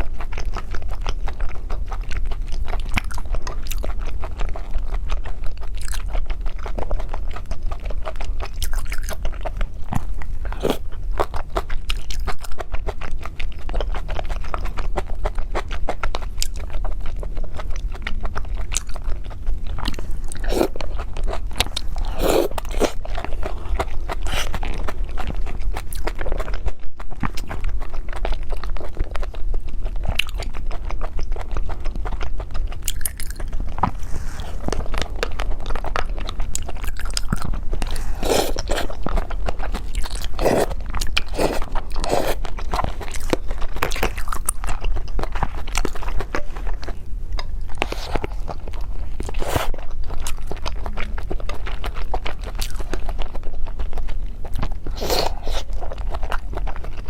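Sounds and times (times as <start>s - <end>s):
person chewing cake: 0.0s - 57.0s.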